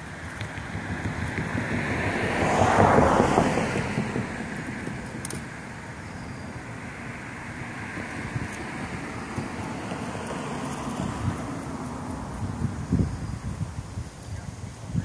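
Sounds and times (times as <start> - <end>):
car passing by: 0.0 - 14.0.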